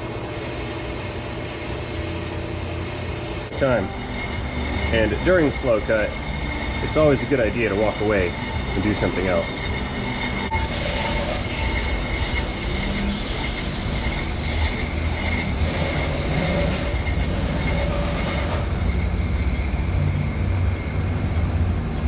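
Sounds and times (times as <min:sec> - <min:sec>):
brake lathe hum and rumble: 0:00.0 - 0:22.0.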